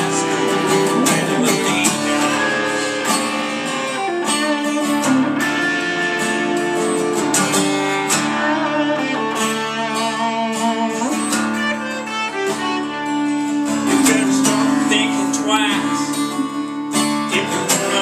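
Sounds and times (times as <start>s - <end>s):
strummed guitar: 0.0s - 18.0s.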